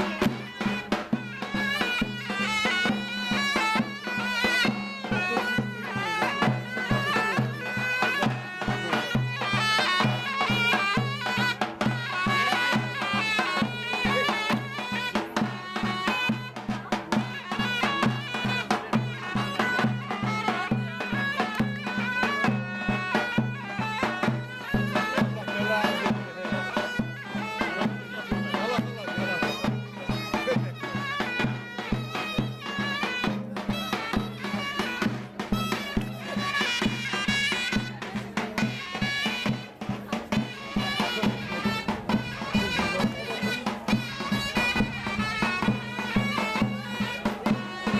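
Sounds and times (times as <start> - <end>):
drum beats: 0.0 - 47.9
shrill shawm melody: 0.0 - 47.9.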